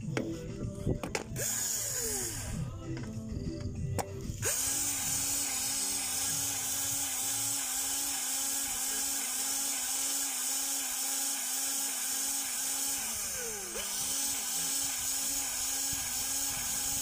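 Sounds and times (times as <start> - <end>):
cordless grease gun whining: 0.1 - 17.0.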